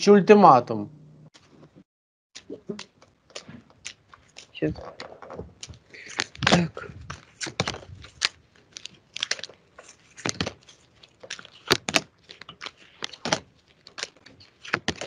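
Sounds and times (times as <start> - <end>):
cards being shuffled: 2.4 - 15.0.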